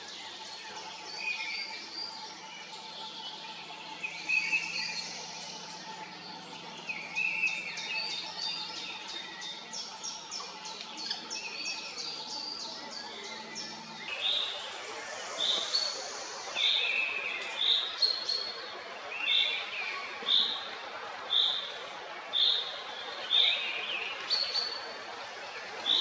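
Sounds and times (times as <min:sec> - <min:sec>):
birds singing and calling: 0:00.0 - 0:26.0.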